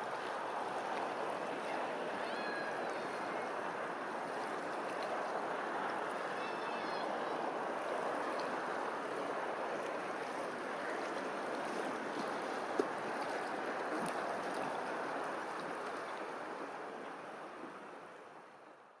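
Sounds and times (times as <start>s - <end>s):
running water rushing: 0.0s - 18.3s.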